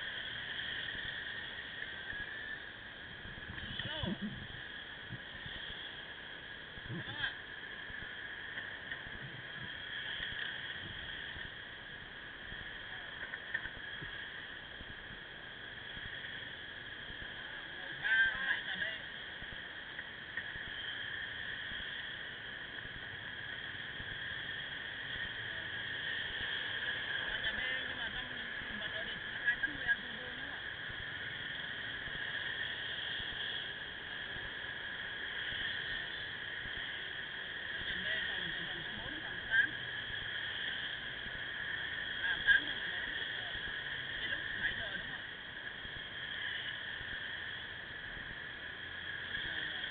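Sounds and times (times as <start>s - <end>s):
motorcycle riding noise hiss: 0.0s - 49.9s
wind and road noise: 0.0s - 49.9s.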